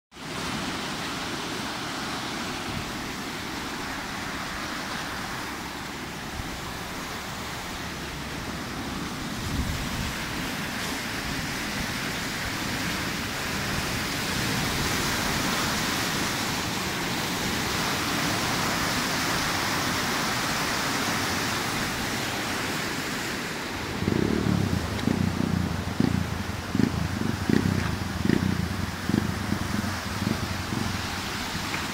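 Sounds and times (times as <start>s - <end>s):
river roaring in flood: 0.1s - 31.9s.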